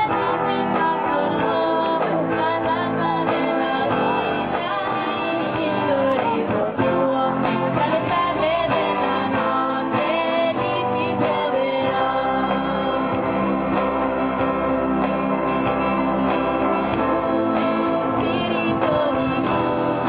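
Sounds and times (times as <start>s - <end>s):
youth choir singing: 0.0s - 14.7s, 15.6s - 20.0s.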